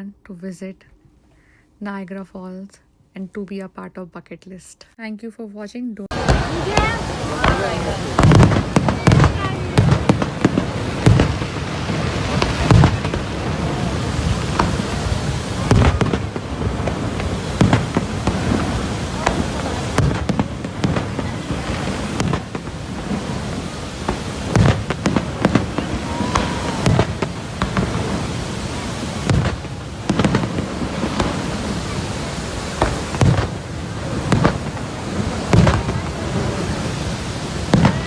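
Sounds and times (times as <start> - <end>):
waterfall roaring: 6.1 - 38.0.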